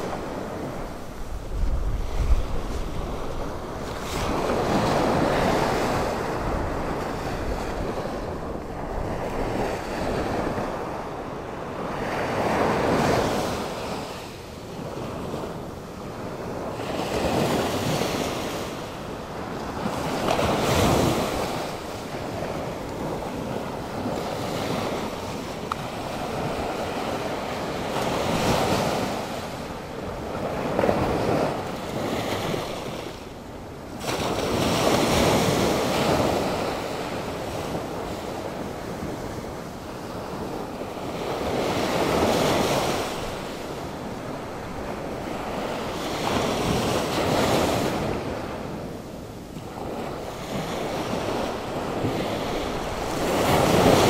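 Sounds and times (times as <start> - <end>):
ocean surf breaking: 0.0 - 54.0
wind buffeting microphone: 0.0 - 54.0.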